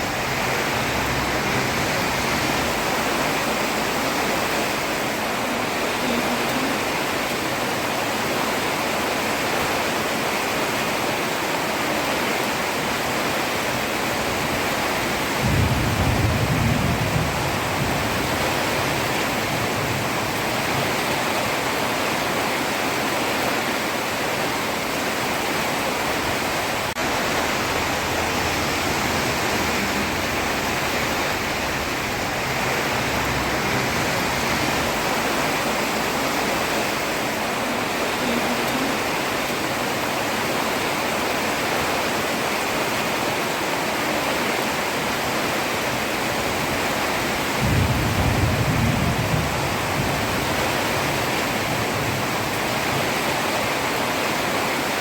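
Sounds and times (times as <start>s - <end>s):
heavy rain on a road: 0.0s - 55.0s.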